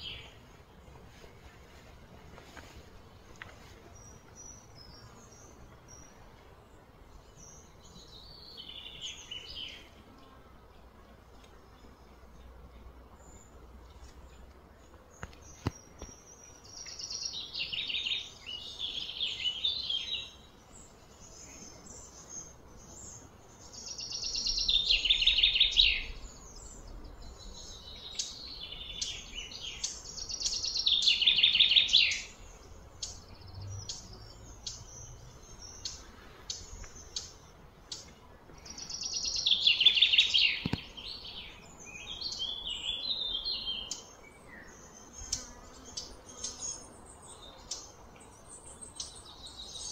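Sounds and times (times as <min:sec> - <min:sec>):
soft bird chirps: 0:00.0 - 0:49.9.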